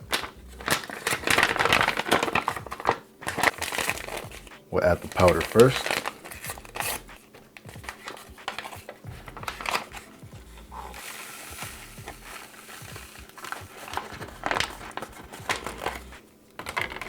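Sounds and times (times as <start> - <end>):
plastic packet crinkling: 0.0 - 10.2, 11.0 - 17.0
soft steady hiss: 0.0 - 16.7.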